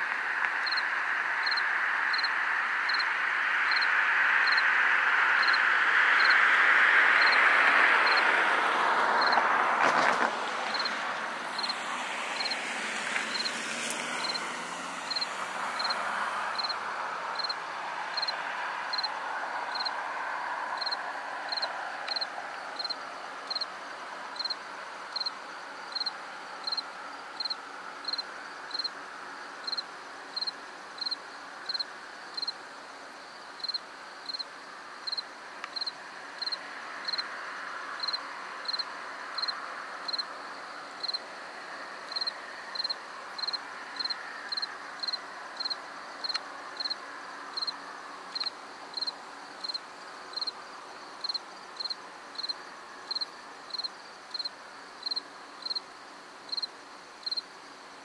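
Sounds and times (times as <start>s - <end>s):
cricket chirping: 0.0s - 58.0s
background hiss: 10.1s - 58.0s.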